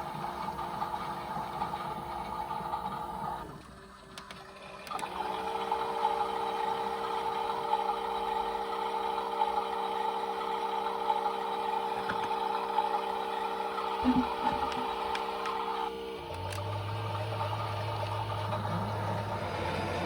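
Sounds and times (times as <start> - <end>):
toy washing machine motor whine: 0.0 - 20.0.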